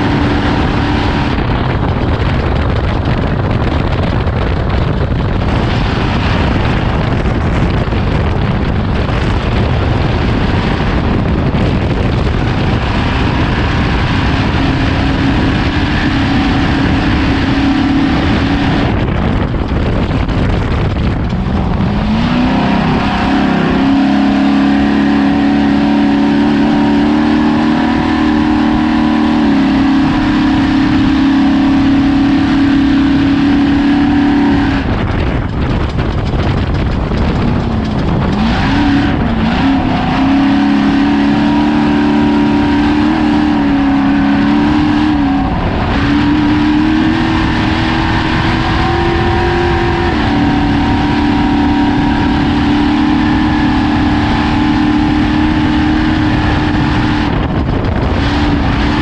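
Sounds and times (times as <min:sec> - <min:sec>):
race truck engine running hard: 0:00.0 - 0:59.0.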